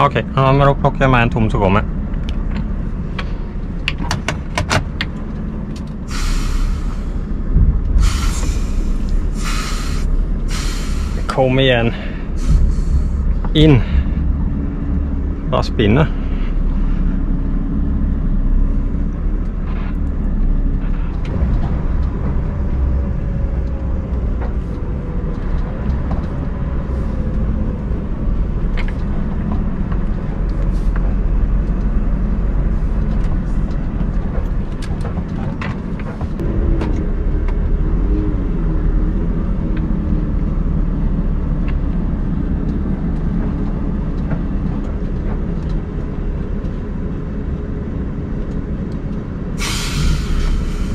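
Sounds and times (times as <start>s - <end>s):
diesel truck engine under load: 0.0s - 50.9s.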